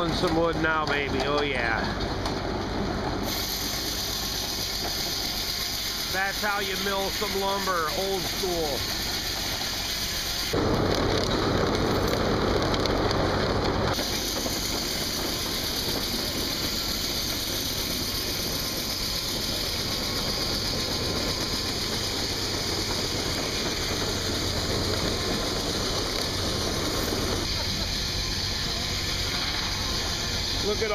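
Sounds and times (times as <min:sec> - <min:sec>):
sawmill machinery running: 0:00.0 - 0:30.9.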